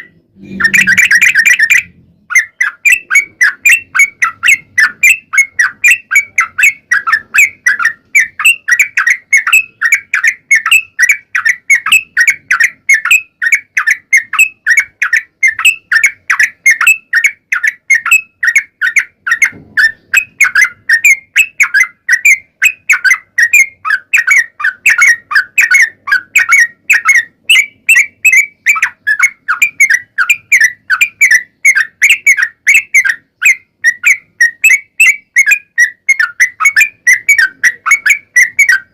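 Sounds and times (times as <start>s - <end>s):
bird singing bubbling notes: 0.0s - 38.9s.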